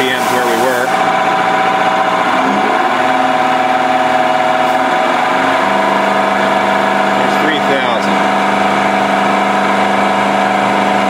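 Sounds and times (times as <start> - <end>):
injection pump mechanical hum: 0.0 - 11.0.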